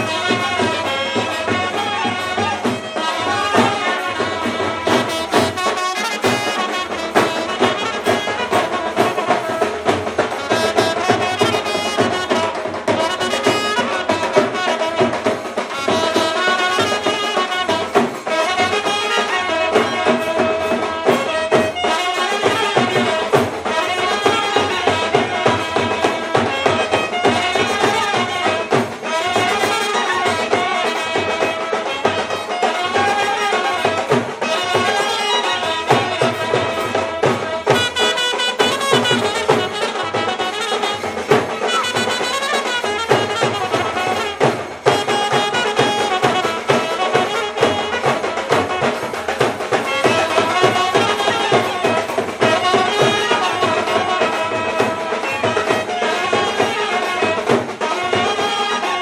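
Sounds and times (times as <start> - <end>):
brass horns playing melody: 0.0 - 59.0
stick-beaten drums: 0.0 - 59.0.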